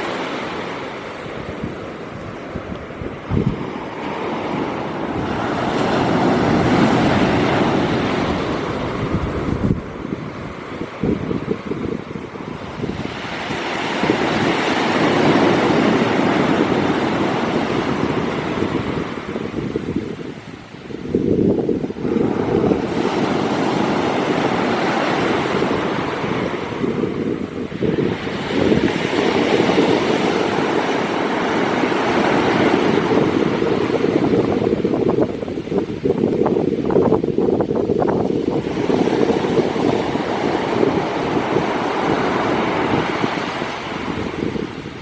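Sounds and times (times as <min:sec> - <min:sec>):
wind buffeting microphone: 0:00.0 - 0:45.0
waves breaking on pebble shore: 0:03.3 - 0:20.4, 0:21.2 - 0:35.5, 0:37.8 - 0:45.0.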